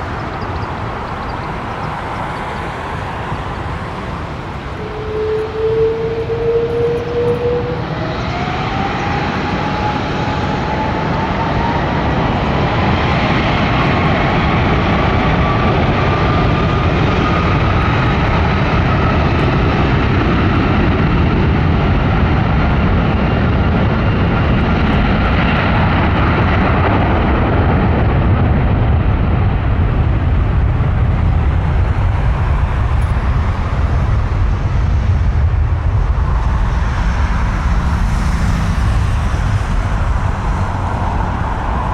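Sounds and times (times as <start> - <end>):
jet engines at take-off thrust: 0.0 - 41.9
rising engine whine: 0.0 - 41.9.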